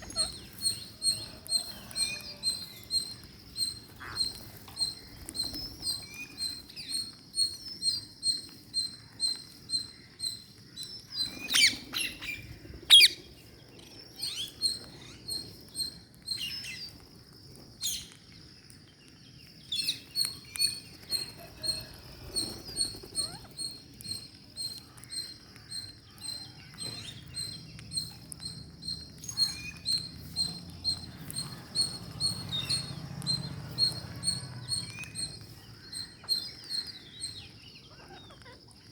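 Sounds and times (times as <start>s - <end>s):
parakeets peeping: 0.0s - 17.0s, 19.6s - 38.9s.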